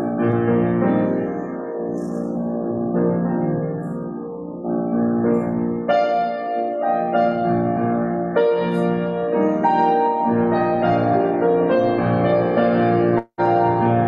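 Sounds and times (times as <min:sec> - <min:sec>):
slow keyboard chords: 0:00.0 - 0:14.0.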